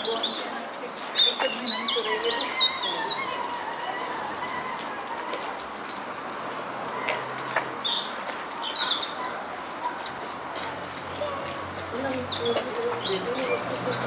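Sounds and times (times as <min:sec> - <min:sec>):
small birds chirping: 0:00.0 - 0:06.3, 0:06.9 - 0:14.0.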